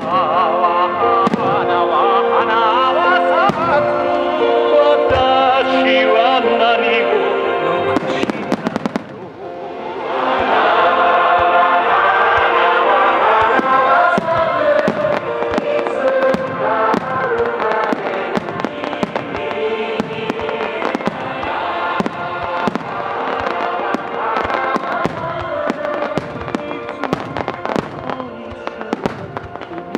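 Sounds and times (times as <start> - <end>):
fireworks bursting and crackling: 0.0 - 29.9
song with held notes: 0.0 - 29.9.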